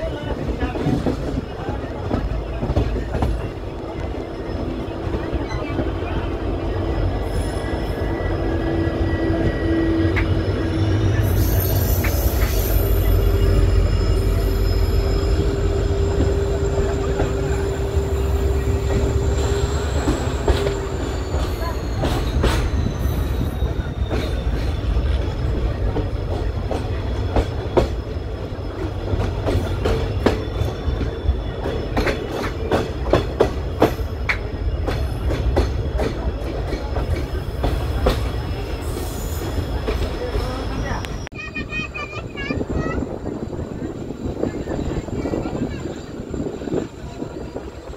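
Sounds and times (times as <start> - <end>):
train low rumble: 0.0 - 47.9.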